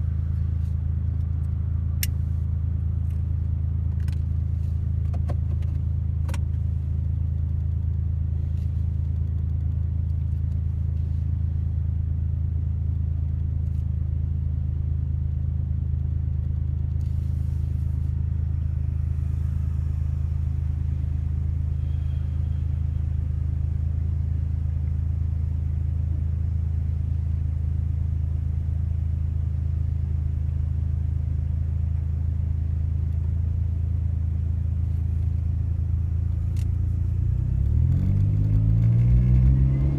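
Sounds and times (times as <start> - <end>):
engine and road noise drone: 0.0 - 39.9.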